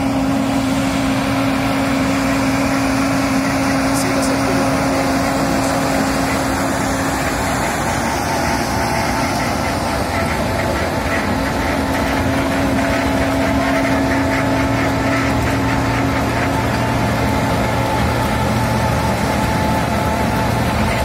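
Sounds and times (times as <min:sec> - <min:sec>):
diesel engine under load: 0:00.0 - 0:21.0
milling drum grinding asphalt: 0:00.0 - 0:21.0.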